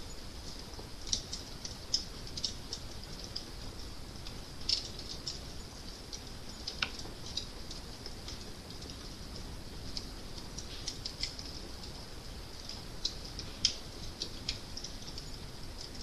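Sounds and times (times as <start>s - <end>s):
fire crackling: 0.0s - 16.0s
low steady rumble: 0.0s - 16.0s.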